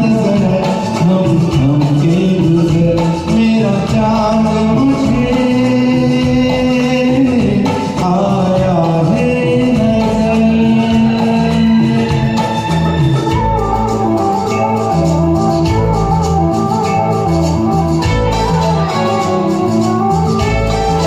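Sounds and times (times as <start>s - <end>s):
film song music: 0.0s - 21.0s.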